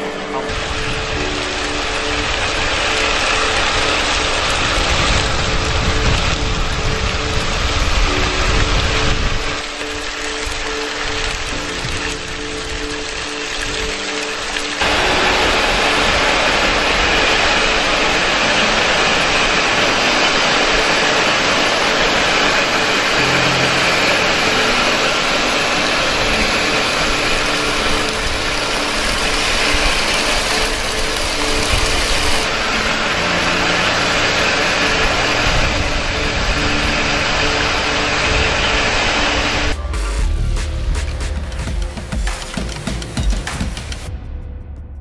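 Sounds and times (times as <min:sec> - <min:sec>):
water falling over rock: 0:00.4 - 0:39.0.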